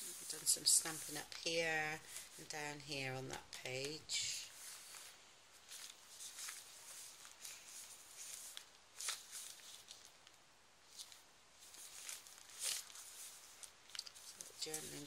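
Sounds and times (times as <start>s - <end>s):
paper pages rustling: 0.0s - 15.0s.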